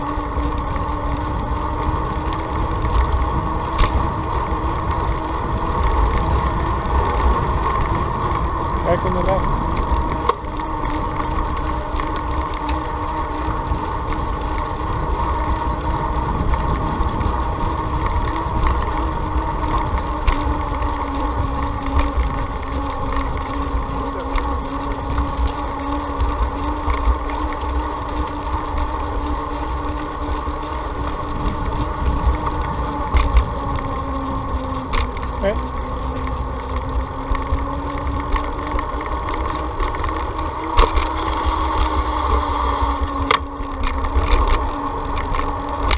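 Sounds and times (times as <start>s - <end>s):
steady whine: 0.0s - 45.9s
wind buffeting microphone: 0.0s - 45.9s.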